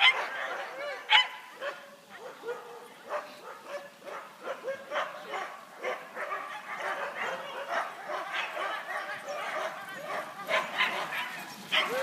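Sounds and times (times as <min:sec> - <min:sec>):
sled dogs barking and yelping: 0:00.0 - 0:12.0.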